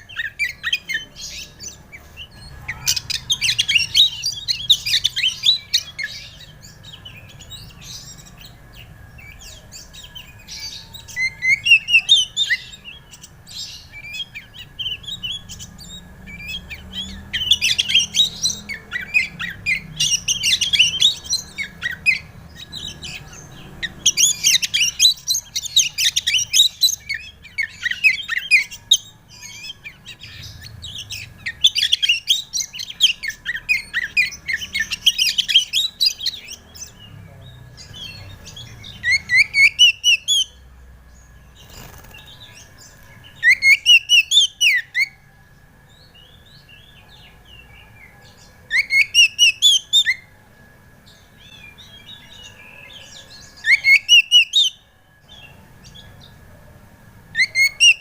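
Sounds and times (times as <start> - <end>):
bird singing whistles and chirps: 0.0 - 45.3, 45.9 - 50.4, 51.1 - 56.3, 57.3 - 58.0
faint steady high tone: 0.0 - 58.0.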